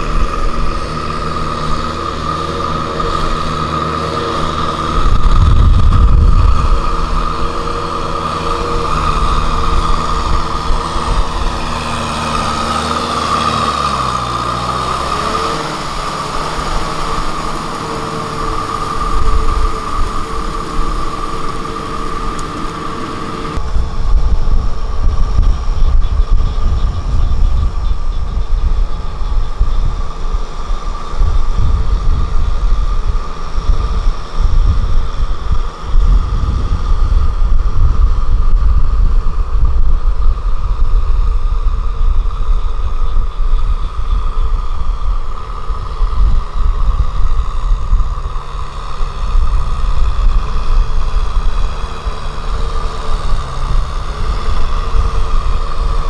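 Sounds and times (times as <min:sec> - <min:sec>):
rotavator churning mud: 0:00.0 - 0:56.0
steady high whine: 0:00.0 - 0:56.0
tractor diesel engine running: 0:00.0 - 0:56.0.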